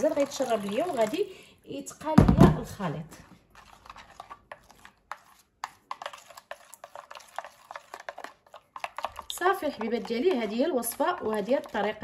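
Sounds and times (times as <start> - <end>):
plastic spoon scraping bowl: 0.0 - 1.3, 2.5 - 12.0.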